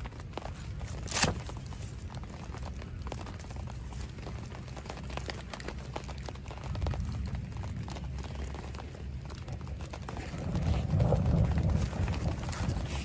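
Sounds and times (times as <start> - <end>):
footsteps on wet grass: 0.0 - 13.0
tent knocks and rustles: 0.0 - 13.0
low rumble: 1.6 - 13.0.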